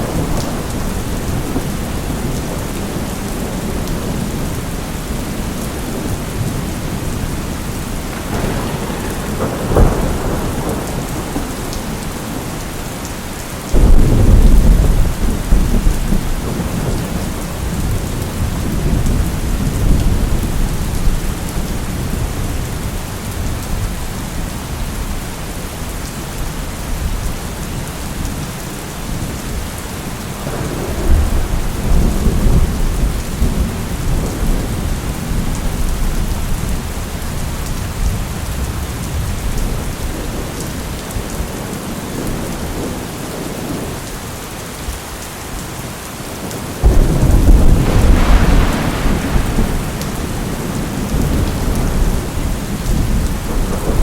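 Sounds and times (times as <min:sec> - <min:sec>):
rolling thunder: 0:00.0 - 0:23.9, 0:30.4 - 0:43.9, 0:46.8 - 0:54.0
heavy rain: 0:00.0 - 0:54.0.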